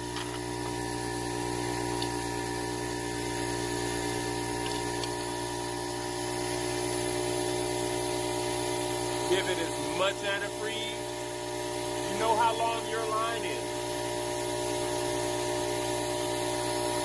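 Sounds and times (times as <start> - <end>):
small electric motor humming: 0.0 - 17.0.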